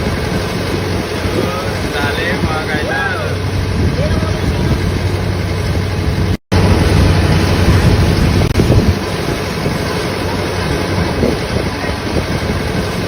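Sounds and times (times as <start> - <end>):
combine harvester engine droning: 0.0 - 13.0
wind buffeting microphone: 0.0 - 13.0.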